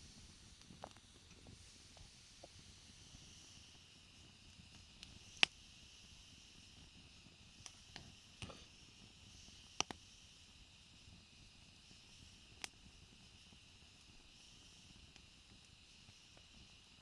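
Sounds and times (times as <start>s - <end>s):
faint fire hiss: 0.0s - 17.0s
wood fire crackling and popping: 0.0s - 17.0s.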